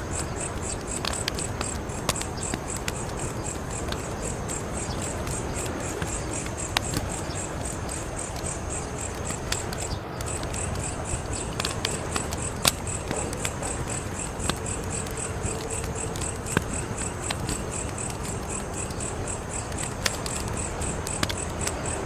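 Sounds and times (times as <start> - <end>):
crickets chirping: 0.0 - 22.0
wood fire crackling: 0.0 - 22.0.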